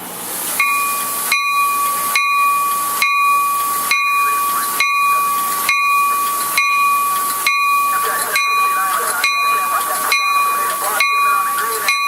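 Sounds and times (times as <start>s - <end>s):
continuous hiss: 0.0s - 12.0s
railroad bell ringing: 0.6s - 12.0s
steady high tone: 0.6s - 12.0s.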